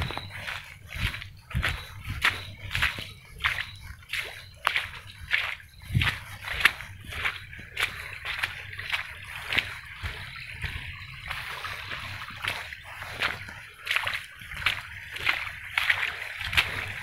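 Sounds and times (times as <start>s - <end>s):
footsteps squelching through mud and water: 0.0s - 17.0s.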